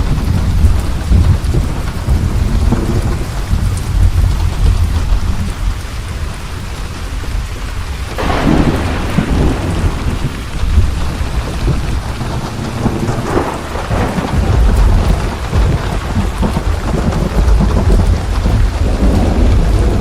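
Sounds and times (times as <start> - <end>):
steady rain: 0.0 - 20.0
thunder rumbling: 0.0 - 20.0
thunderclap: 0.0 - 20.0.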